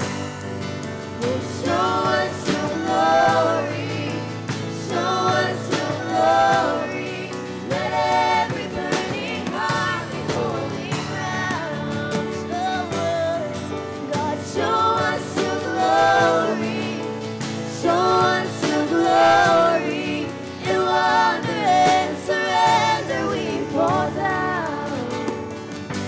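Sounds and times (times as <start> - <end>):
instrumental backing: 0.0 - 26.0
worship song with singing voice: 0.0 - 26.0.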